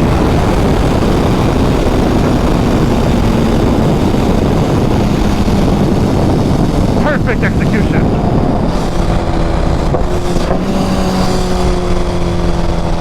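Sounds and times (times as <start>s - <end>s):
motorcycle engine: 0.0s - 13.0s
wind roar on helmet microphone: 0.0s - 13.0s.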